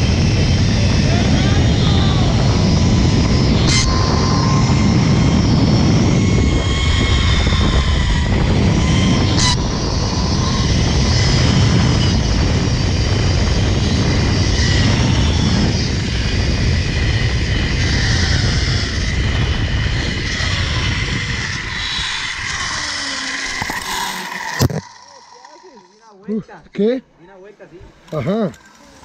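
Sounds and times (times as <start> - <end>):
pulley rushing hum on cable: 0.0 - 26.3
thin whine: 0.0 - 29.0.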